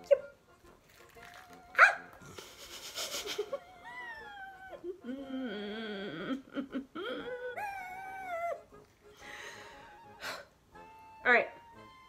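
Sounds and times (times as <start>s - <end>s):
woman whimpering and moaning: 2.3s - 12.0s.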